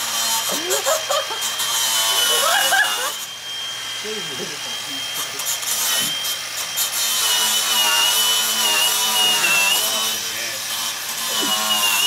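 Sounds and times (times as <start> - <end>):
angle grinder cutting steel: 0.0 - 12.0.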